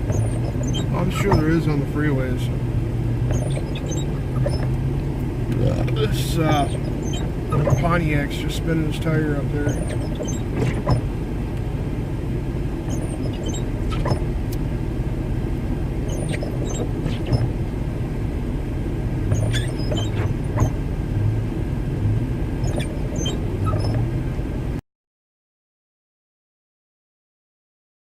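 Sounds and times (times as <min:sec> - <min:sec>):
vehicle cab rumble: 0:00.0 - 0:24.8.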